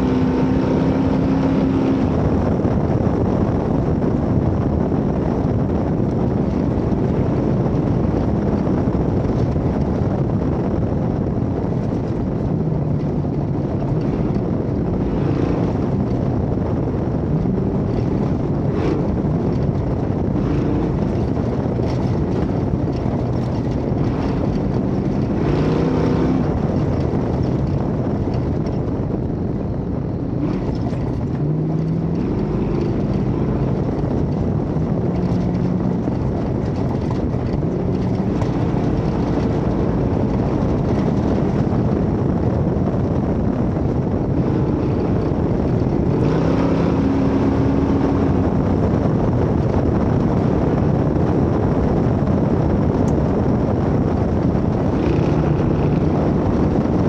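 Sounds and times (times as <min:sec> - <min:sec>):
road noise: 0:00.0 - 0:57.0
truck engine running hard: 0:00.0 - 0:57.0
wind noise: 0:00.0 - 0:57.0.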